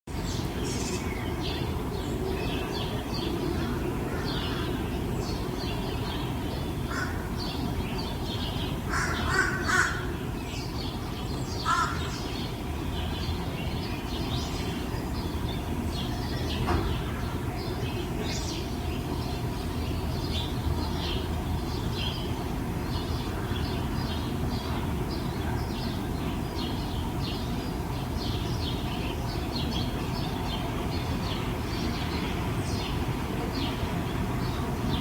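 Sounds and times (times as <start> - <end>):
small birds chirping: 0.1 - 35.0
harsh bird calls: 0.3 - 35.0.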